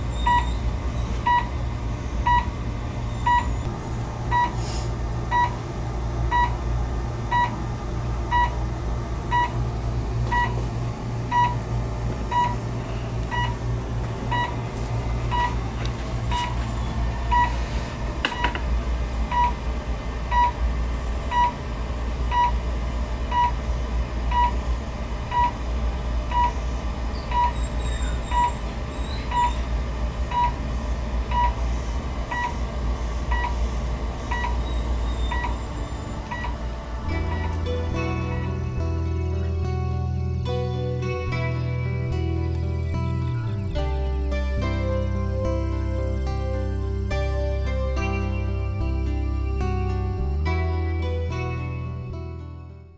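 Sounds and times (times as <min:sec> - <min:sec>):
low steady hum: 0:00.0 - 0:52.9.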